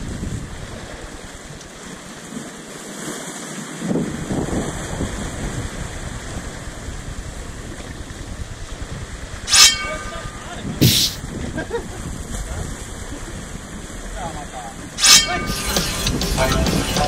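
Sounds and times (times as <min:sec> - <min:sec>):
wind buffeting microphone: 0:00.0 - 0:01.9, 0:03.8 - 0:16.3
sea surf on rocky shore: 0:00.0 - 0:15.4.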